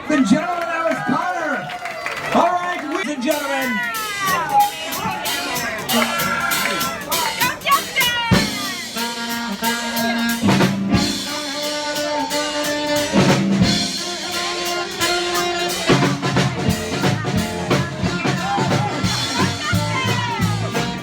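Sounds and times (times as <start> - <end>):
live band playing: 1.7 - 21.0
drum kit beat: 3.2 - 21.0
bass line: 3.9 - 21.0.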